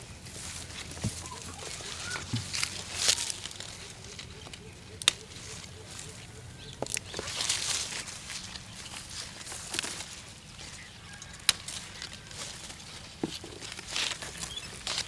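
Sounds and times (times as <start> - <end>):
leaves and branches rustling: 0.0 - 15.0.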